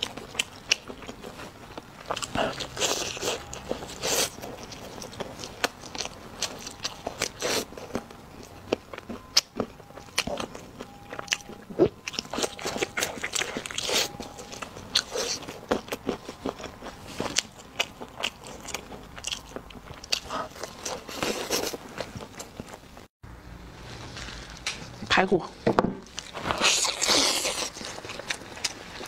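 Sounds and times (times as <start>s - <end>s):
biting and chewing meat: 0.0s - 23.1s, 26.1s - 29.0s.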